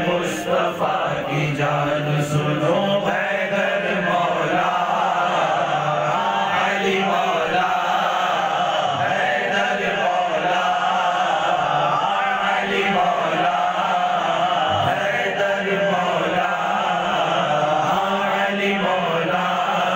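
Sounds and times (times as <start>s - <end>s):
men chanting devotional verse: 0.0s - 19.9s.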